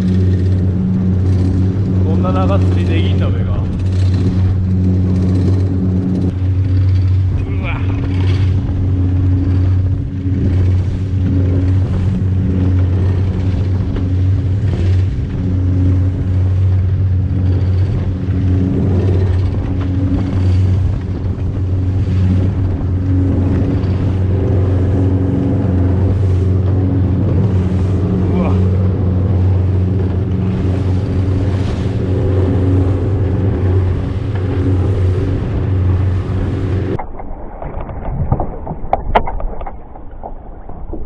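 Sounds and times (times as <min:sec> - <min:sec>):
boat engine droning: 0:00.0 - 0:41.0
hull slapping through waves: 0:00.0 - 0:41.0.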